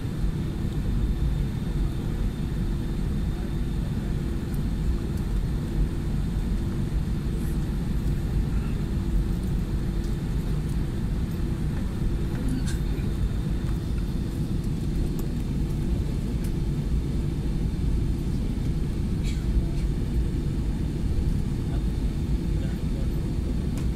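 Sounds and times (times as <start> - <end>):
aircraft cabin rumble: 0.0 - 23.9
constant hum: 0.0 - 23.9.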